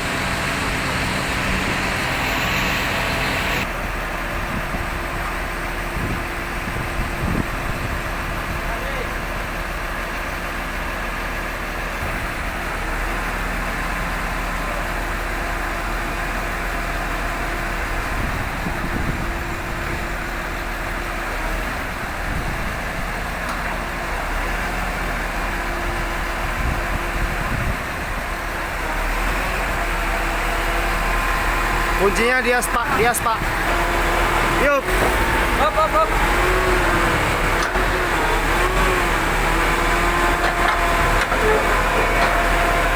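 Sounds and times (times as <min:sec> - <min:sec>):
heavy vehicle engine running: 0:00.0 - 0:42.9.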